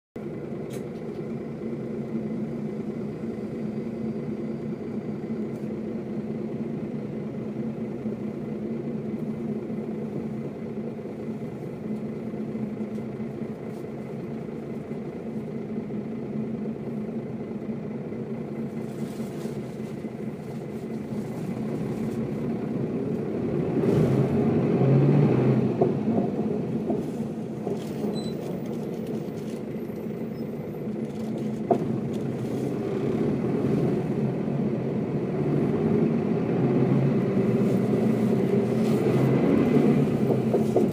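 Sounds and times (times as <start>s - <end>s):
bus diesel engine running: 0.2s - 40.9s.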